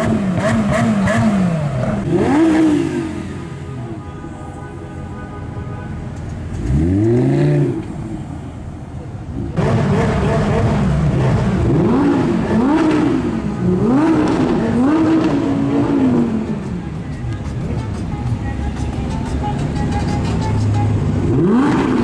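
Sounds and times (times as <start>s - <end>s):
sports car engines revving: 0.0s - 4.0s, 6.3s - 22.0s.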